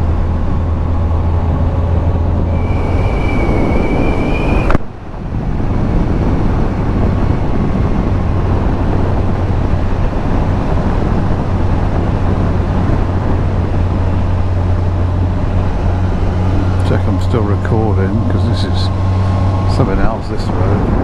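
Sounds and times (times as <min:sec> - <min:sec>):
motorcycle engine cruising: 0:00.0 - 0:04.7, 0:06.4 - 0:21.0
road noise: 0:00.0 - 0:21.0
wind noise: 0:00.0 - 0:21.0.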